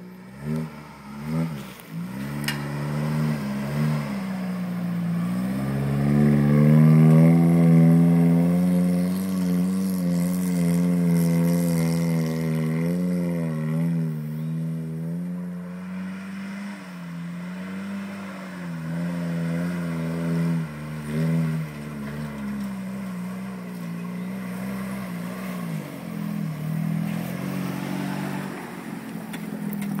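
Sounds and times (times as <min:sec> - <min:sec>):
pickup truck engine revving: 0:00.0 - 0:30.0.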